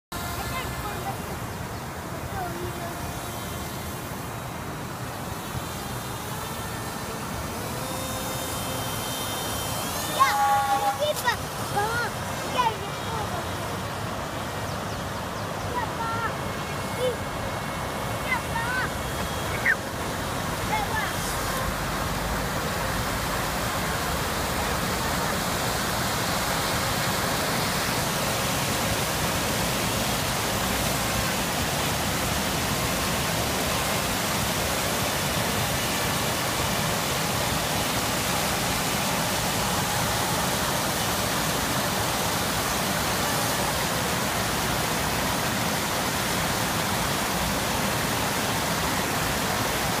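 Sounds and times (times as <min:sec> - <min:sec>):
water rushing over weir: 0:00.1 - 0:50.0.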